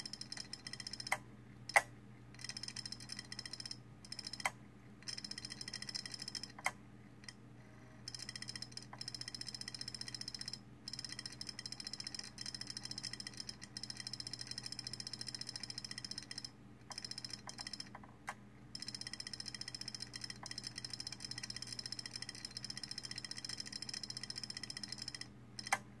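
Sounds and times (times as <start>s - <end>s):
hard drive ticking and clicking: 0.0s - 7.4s, 8.1s - 25.9s.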